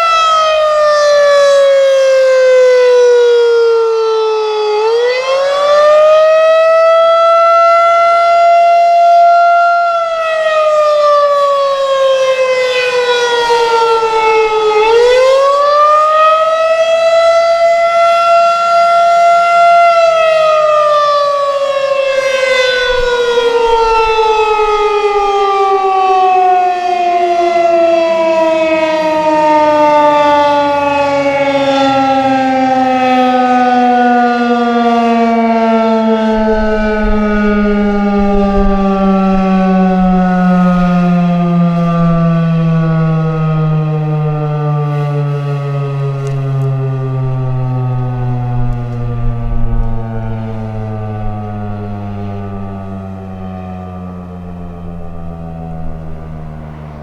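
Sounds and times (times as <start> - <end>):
outdoor warning siren wailing: 0.0 - 57.0.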